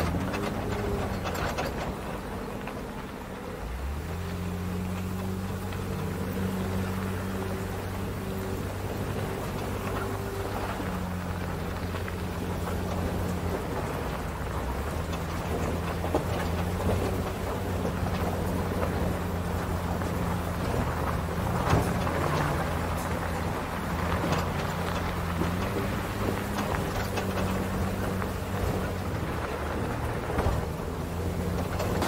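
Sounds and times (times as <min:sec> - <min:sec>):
truck engine hum: 0:00.0 - 0:32.0
tyres crunching on gravel: 0:00.0 - 0:32.0.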